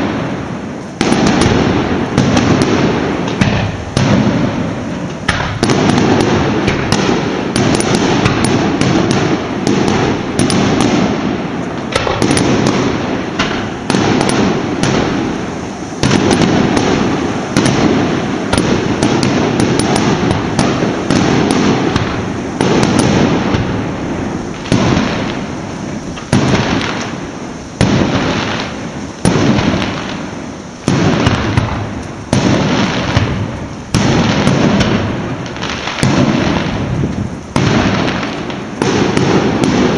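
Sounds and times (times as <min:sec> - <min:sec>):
firecrackers going off: 0:00.0 - 0:39.9.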